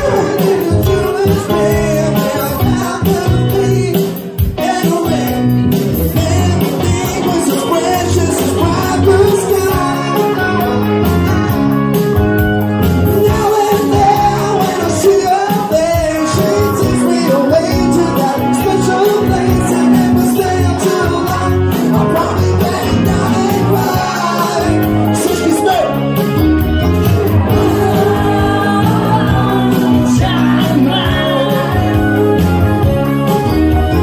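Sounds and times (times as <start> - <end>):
singer's voice: 0.0 - 11.7, 12.9 - 26.2, 27.4 - 34.0
live band with electric guitar: 0.0 - 34.0.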